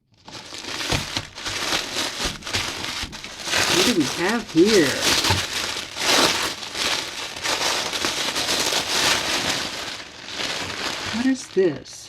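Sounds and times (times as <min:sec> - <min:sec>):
gift wrapping crinkling: 0:00.0 - 0:12.0.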